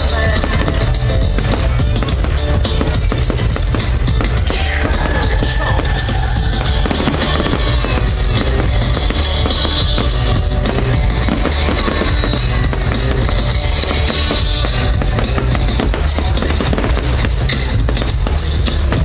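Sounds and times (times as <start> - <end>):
loud rock music: 0.0 - 19.0.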